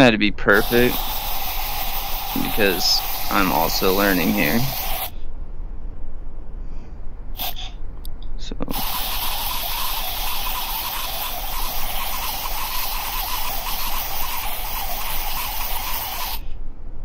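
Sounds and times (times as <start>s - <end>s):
steady hiss: 0.0s - 5.3s, 7.3s - 7.8s, 8.4s - 16.6s.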